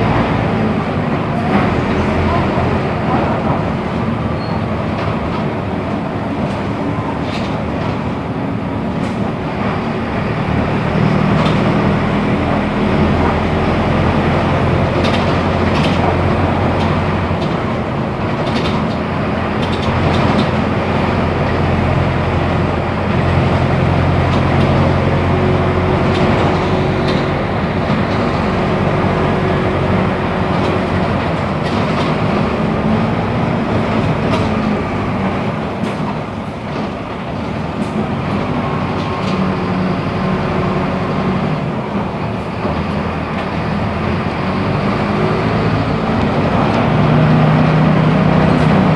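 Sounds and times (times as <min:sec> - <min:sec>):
bus diesel engine droning: 0:00.0 - 0:48.9
road noise: 0:00.0 - 0:48.9.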